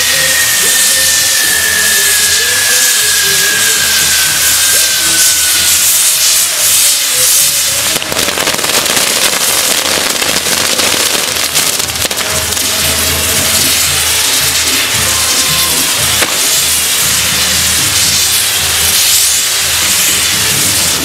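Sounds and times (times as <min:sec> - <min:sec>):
firework crackling: 0:00.0 - 0:21.0
firework hiss and falling whistle: 0:00.0 - 0:21.0.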